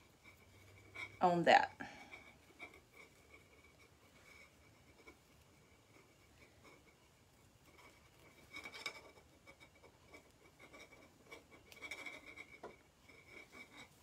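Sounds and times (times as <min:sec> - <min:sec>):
twine rustling and scratching: 0:00.0 - 0:14.0.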